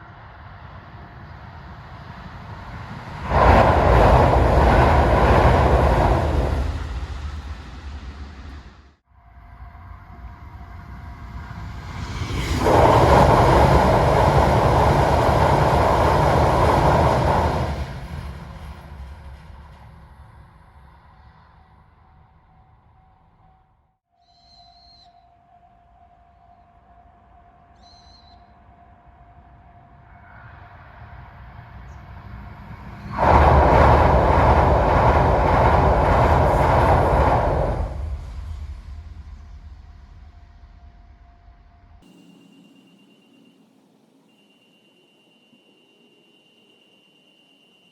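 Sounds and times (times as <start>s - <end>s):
train passing at high speed: 0.0s - 23.1s, 25.9s - 47.9s.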